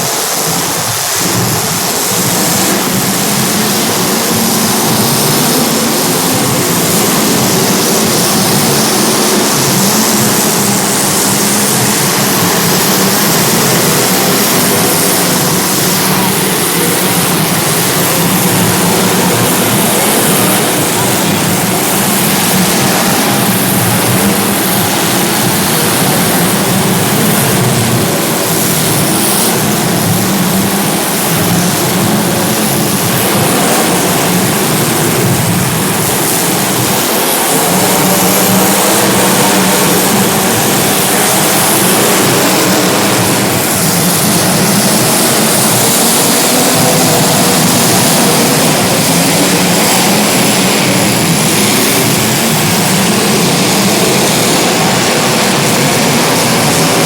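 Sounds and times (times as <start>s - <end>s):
racing engines: 0.0s - 57.0s.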